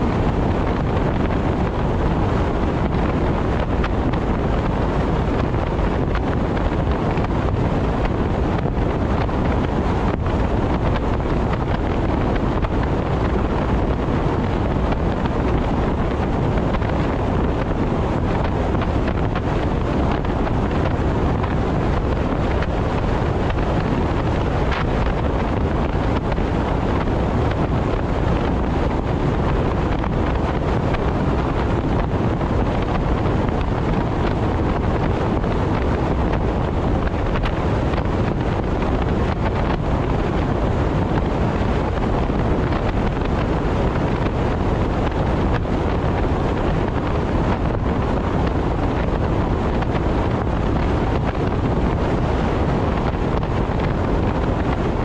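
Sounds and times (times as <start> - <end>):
car tyre and wind rumble: 0.0 - 55.0.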